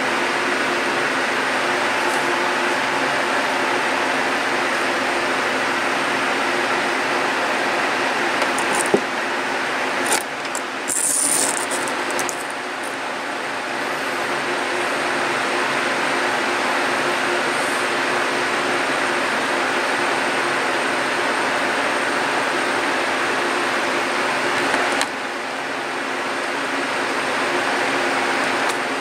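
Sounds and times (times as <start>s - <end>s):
background hum and hiss: 0.0s - 29.0s.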